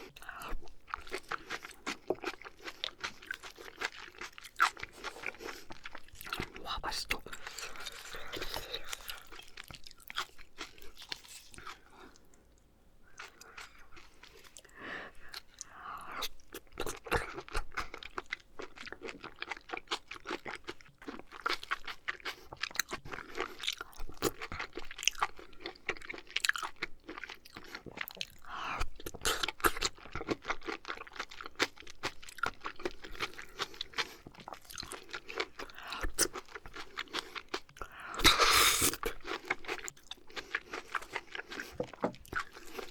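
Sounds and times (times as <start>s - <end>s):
chewing with wet mouth noises: 0.0s - 42.9s.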